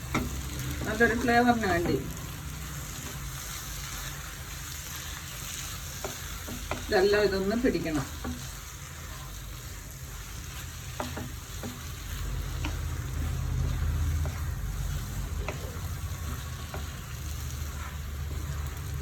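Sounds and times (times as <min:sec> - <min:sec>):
food sizzling in a pan: 0:00.0 - 0:19.0
spoon scraping a pan: 0:00.0 - 0:19.0.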